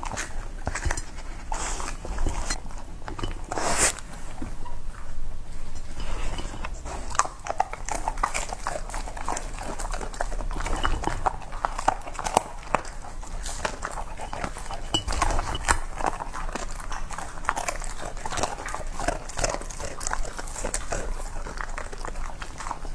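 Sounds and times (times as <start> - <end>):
dog eating wet food: 0.0 - 22.9.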